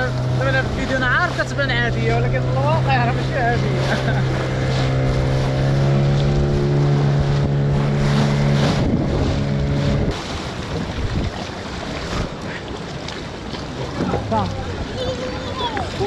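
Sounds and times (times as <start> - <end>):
small boat engine running: 0.0 - 16.0
water noise: 0.0 - 16.0
wind: 0.0 - 16.0.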